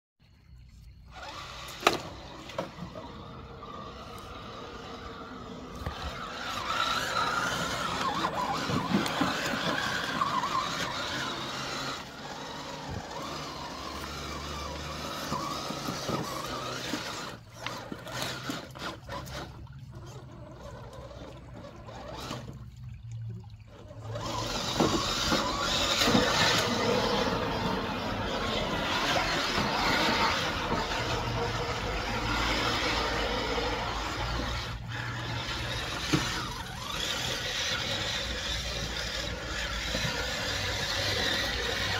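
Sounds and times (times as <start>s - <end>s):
moving water: 0.2s - 41.9s
toy truck motor whining: 0.8s - 22.7s, 23.7s - 41.9s.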